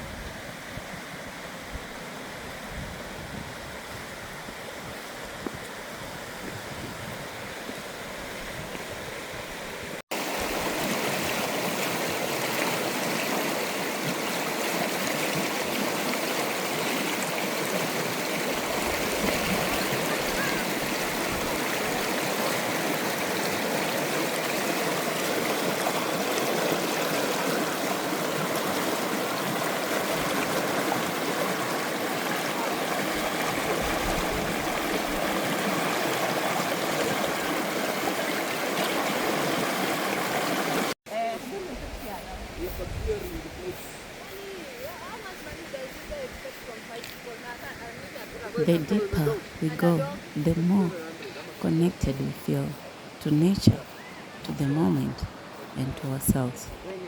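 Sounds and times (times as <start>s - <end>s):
stream flowing water: 0.0s - 57.0s.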